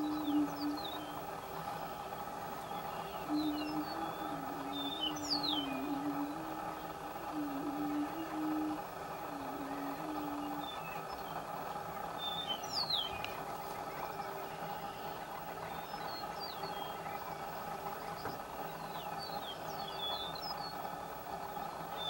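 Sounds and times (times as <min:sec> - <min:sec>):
high falling bird calls: 0:00.0 - 0:22.0
low humming drone of birds: 0:00.0 - 0:22.0.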